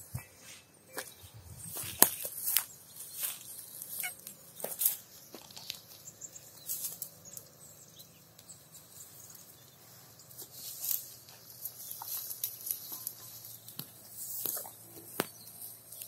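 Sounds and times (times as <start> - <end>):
cow tearing and chewing grass: 1.0 - 7.8, 8.4 - 16.0.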